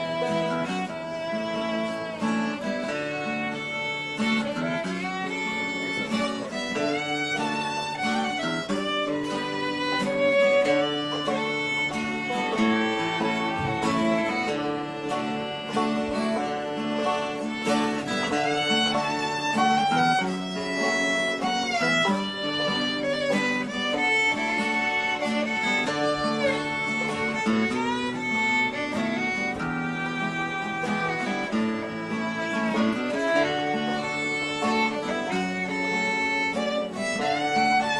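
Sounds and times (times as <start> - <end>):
acoustic guitar: 0.0 - 37.9
fiddle melody: 0.0 - 37.9.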